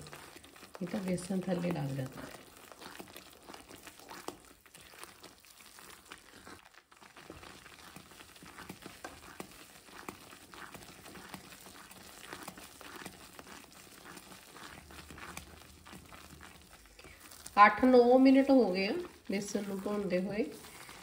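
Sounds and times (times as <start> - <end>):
flour bubbling in hot fat: 0.0 - 21.0
ladle stirring in a pan: 0.0 - 21.0.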